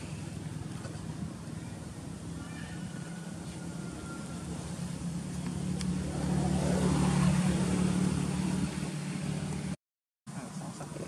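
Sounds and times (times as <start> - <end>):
engine passing by: 0.0 - 9.8.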